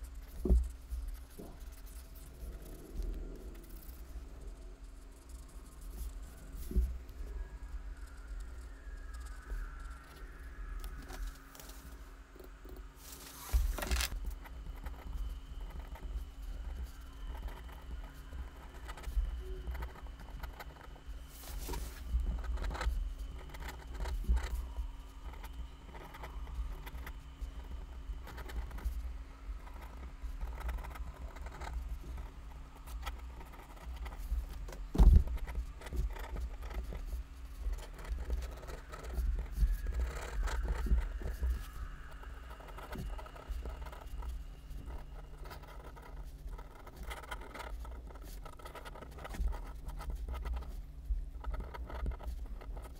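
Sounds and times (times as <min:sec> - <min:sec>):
pen scratching on paper: 0:03.4 - 0:06.9, 0:13.2 - 0:24.6, 0:25.2 - 0:52.9.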